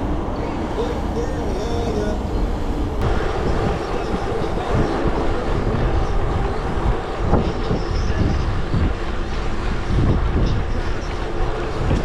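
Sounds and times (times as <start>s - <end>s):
rolling bicycle rumble: 0.0s - 12.0s
wind buffeting microphone: 0.0s - 12.0s.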